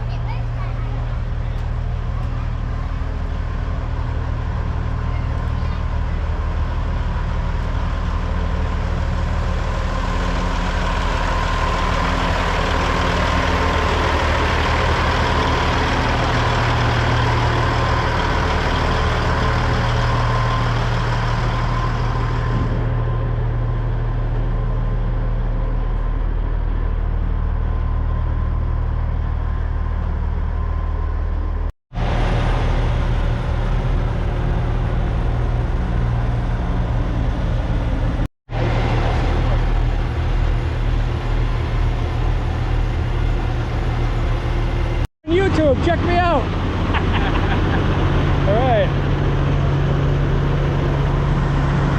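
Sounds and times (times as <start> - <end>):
diesel truck engine running: 0.0 - 51.9.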